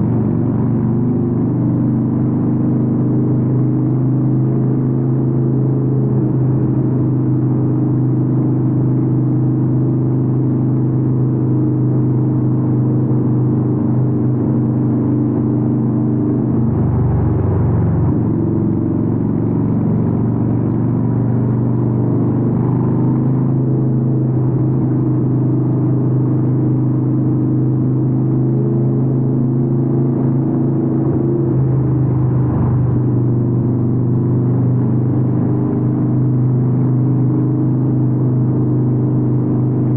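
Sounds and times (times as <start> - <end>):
motorcycle deep exhaust note: 0.0 - 39.9.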